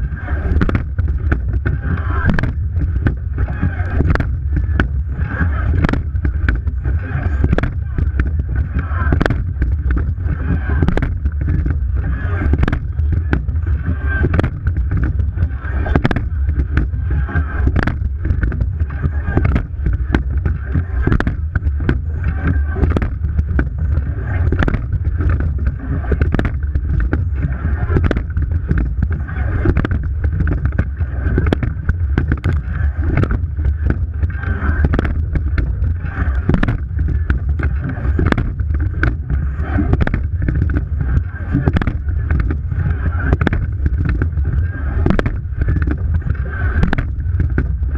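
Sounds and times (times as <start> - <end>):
rowing stroke knock: 0.0 - 47.9
water rushing along hull: 0.0 - 47.9
wind rumble on microphone: 0.0 - 47.9.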